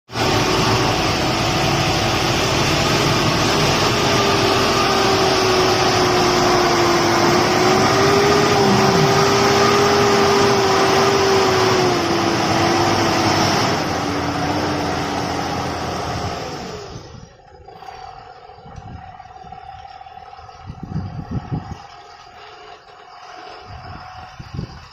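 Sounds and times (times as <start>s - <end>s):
vehicle engine and road noise: 0.1s - 24.9s.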